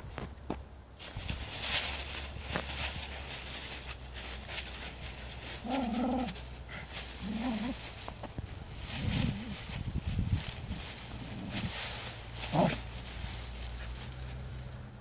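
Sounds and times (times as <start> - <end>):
dry leaves crackling and rustling: 0.9 - 15.0.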